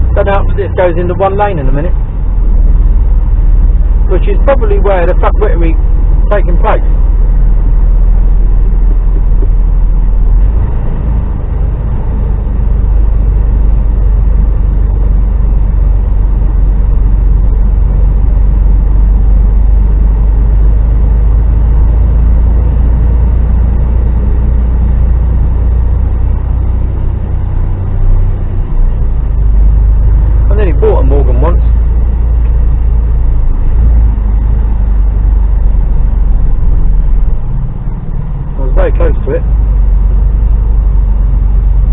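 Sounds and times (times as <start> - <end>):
truck diesel engine drone: 0.0 - 41.9.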